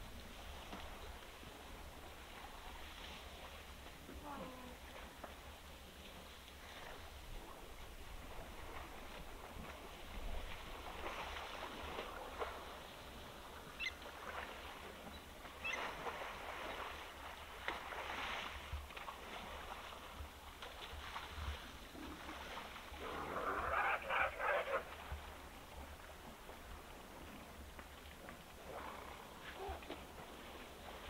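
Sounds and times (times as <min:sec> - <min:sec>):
elephants moving in mud and water: 0:00.0 - 0:31.0.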